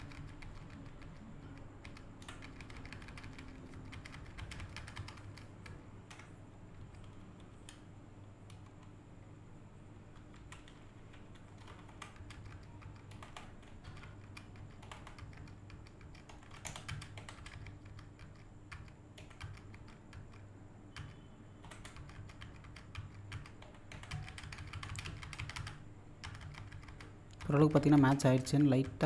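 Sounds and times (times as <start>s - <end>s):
computer keyboard clicks: 0.0s - 7.8s, 10.2s - 29.0s
faint low hum: 0.0s - 29.0s.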